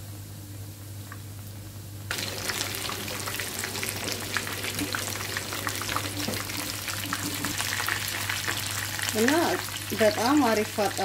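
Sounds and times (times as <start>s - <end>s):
chicken frying in hot oil: 0.7s - 11.0s.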